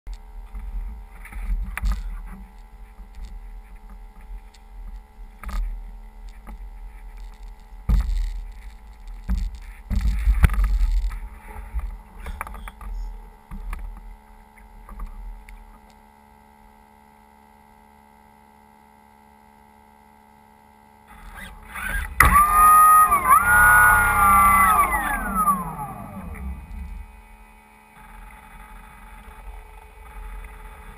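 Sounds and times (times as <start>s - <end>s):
steady electrical hum: 0.1s - 30.9s.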